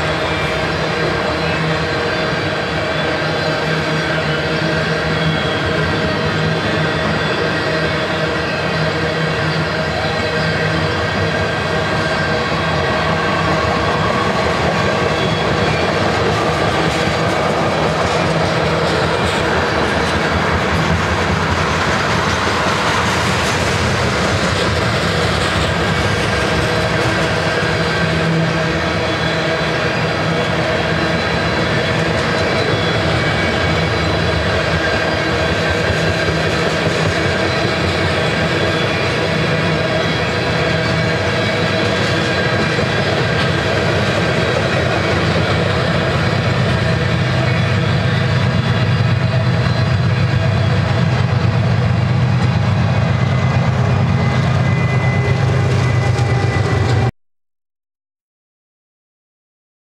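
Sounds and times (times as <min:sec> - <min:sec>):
diesel locomotive engines: 0:00.0 - 0:57.1
train wheels on rails: 0:00.0 - 0:57.1.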